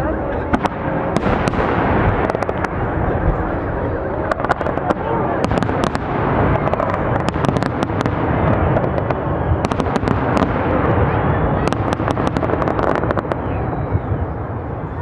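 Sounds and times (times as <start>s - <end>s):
fireworks rumble: 0.0s - 15.0s
sharp crackling pops: 0.5s - 3.0s, 4.2s - 14.1s.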